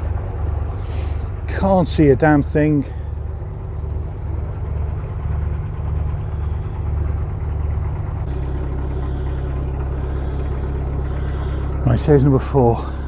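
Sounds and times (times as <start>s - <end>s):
diesel engine running at low revs: 0.0s - 13.0s.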